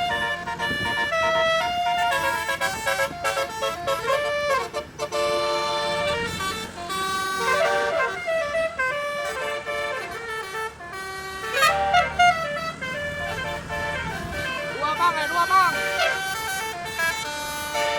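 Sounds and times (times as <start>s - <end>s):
bus air horn playing a tune: 0.0s - 17.9s.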